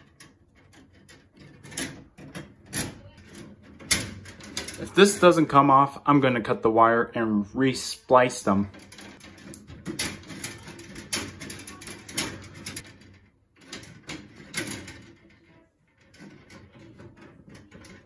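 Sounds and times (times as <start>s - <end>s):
plastic and wire scraping: 0.0s - 5.7s, 8.5s - 18.0s.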